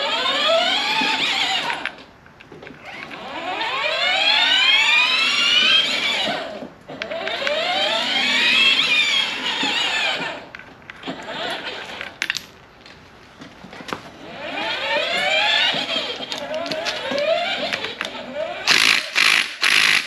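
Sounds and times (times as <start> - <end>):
pulley bearing whirring: 0.0 - 12.5, 13.6 - 20.0.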